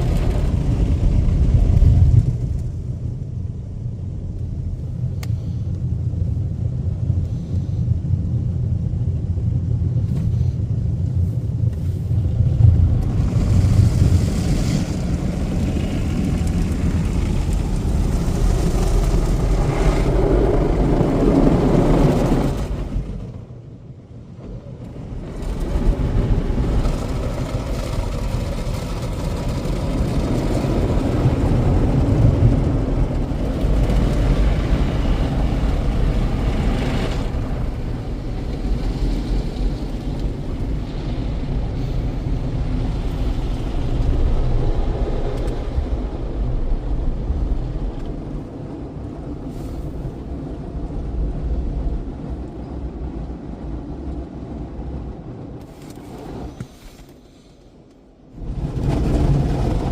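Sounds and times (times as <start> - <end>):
car wash equipment running: 0.0 - 3.4, 11.1 - 56.7, 58.4 - 59.9.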